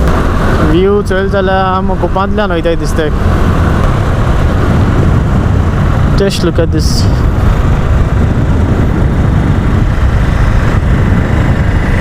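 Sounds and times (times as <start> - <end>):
road and engine noise: 0.0 - 12.0
wind buffeting microphone: 0.0 - 12.0.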